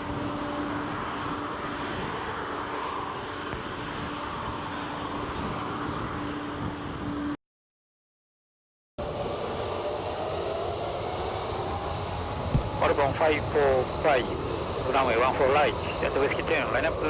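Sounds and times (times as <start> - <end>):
jet aircraft noise: 0.0 - 7.4, 9.0 - 17.0.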